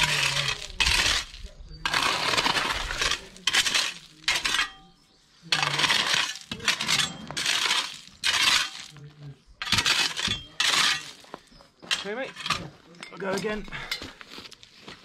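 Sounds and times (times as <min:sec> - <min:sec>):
gravel crunching and clinking: 0:00.0 - 0:15.0.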